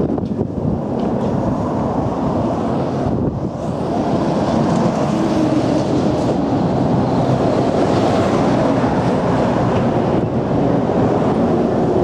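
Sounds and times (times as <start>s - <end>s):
dense traffic rumble: 0.0s - 12.0s.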